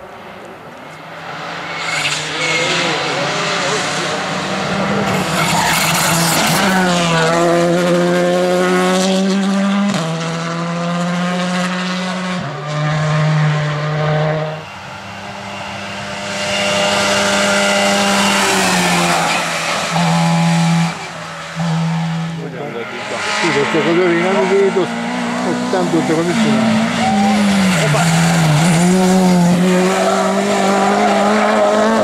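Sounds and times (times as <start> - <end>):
rally car engines at full throttle: 0.0 - 32.0.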